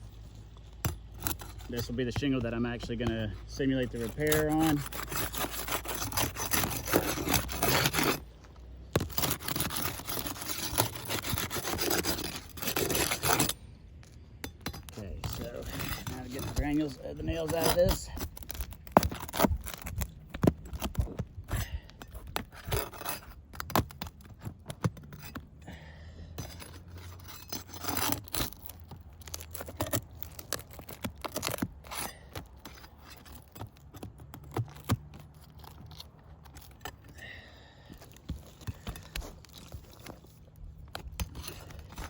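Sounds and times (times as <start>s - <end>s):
metal tool scraping shingles: 0.1s - 25.6s, 26.3s - 42.0s.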